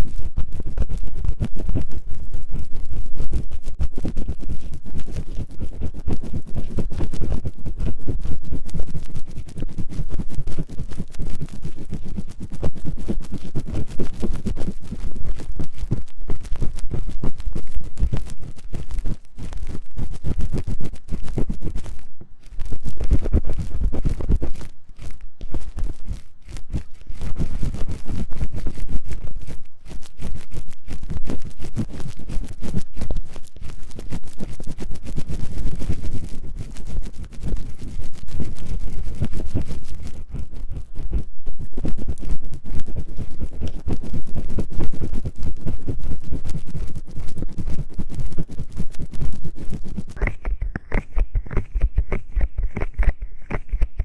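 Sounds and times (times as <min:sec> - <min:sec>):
scratching on microphone ear: 0:00.0 - 0:54.0.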